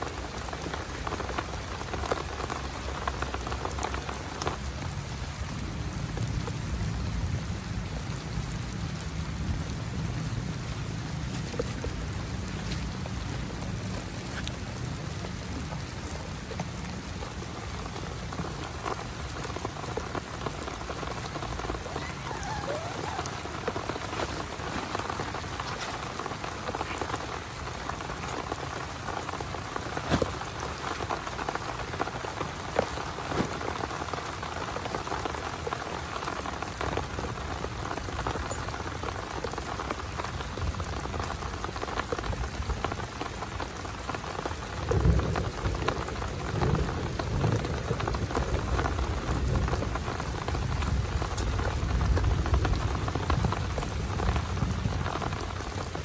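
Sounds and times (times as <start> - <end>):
heavy rain: 0.0 - 56.0
low rumble of thunder: 0.6 - 35.5, 44.4 - 56.0.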